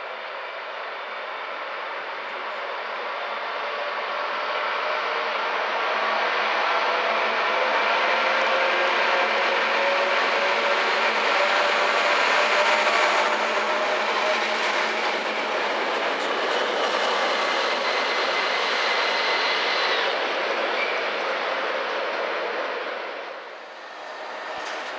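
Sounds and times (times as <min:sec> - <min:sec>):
train rolling noise: 0:00.0 - 0:24.9.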